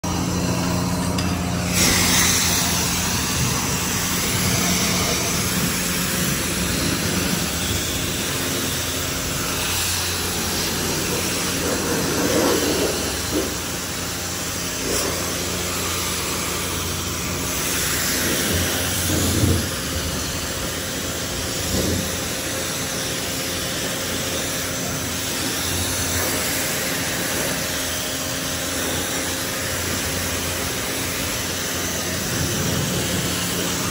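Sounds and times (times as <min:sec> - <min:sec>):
low machine hum: 0:00.0 - 0:33.9
pressure washer spraying: 0:00.0 - 0:33.9.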